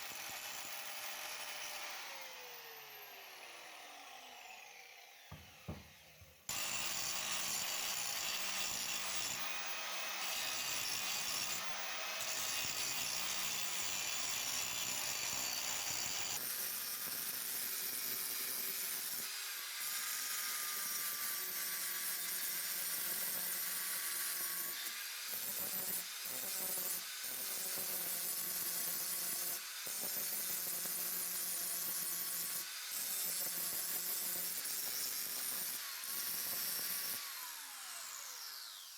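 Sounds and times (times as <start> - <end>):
power tool grinding metal: 0.0 - 38.9.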